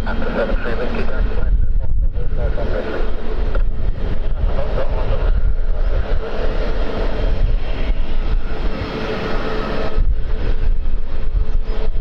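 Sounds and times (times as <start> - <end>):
aircraft engines whining and rumbling: 0.0 - 12.0.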